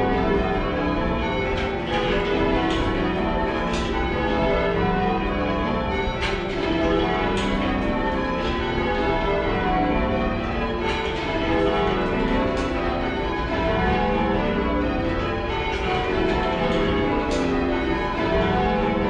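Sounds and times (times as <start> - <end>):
church bells ringing in changes: 0.0 - 19.0.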